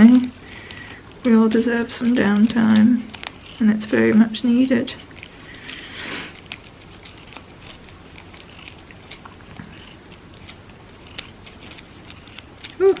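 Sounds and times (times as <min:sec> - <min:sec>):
paper rustle: 0:00.0 - 0:13.0
scissors snipping paper: 0:00.0 - 0:13.0.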